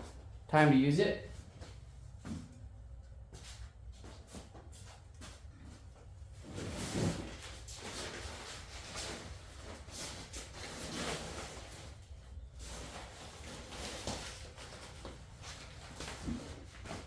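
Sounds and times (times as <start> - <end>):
rustling and handling noises: 1.3 - 17.0.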